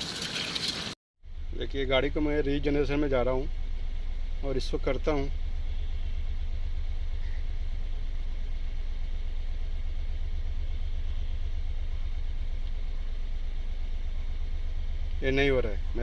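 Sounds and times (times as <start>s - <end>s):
diesel car engine idling: 1.2s - 16.0s.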